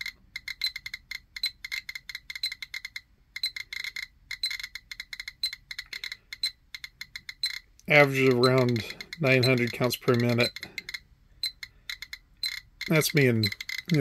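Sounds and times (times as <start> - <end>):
geiger counter beeping: 0.0 - 14.0.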